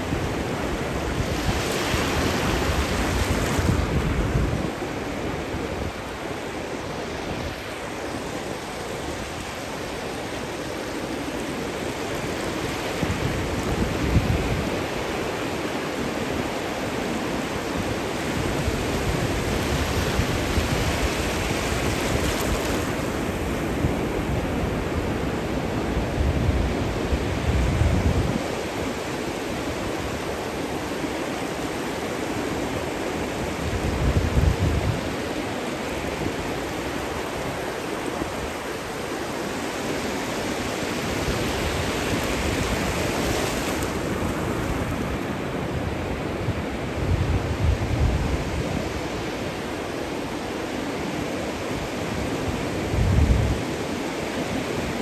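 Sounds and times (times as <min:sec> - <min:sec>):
ocean surf breaking: 0:00.0 - 0:27.8, 0:28.5 - 0:55.0.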